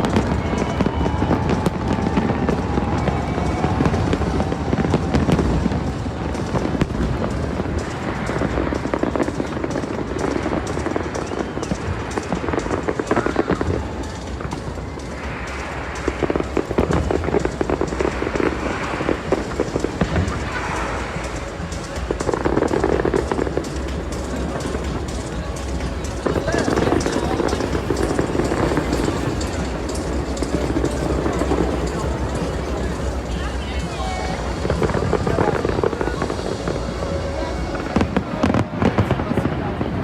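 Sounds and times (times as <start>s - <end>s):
fireworks crackling and popping: 0.0s - 40.0s
music playing: 0.0s - 40.0s.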